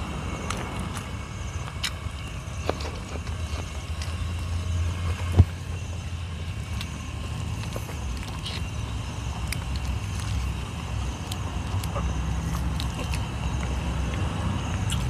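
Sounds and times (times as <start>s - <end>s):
steady low rumble: 0.0s - 15.0s
chewing: 0.3s - 15.0s.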